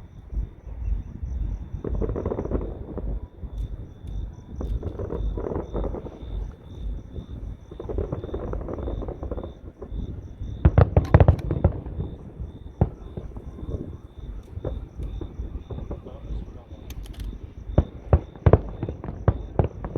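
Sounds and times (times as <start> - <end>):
fireworks bangs: 0.0 - 19.9
pulsing insect chirp: 0.0 - 19.9.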